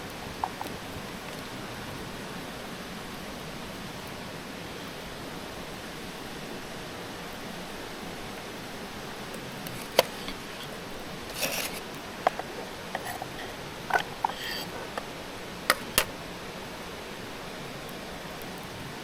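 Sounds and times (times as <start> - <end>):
background hiss: 0.0 - 19.0
rustle: 0.0 - 19.0.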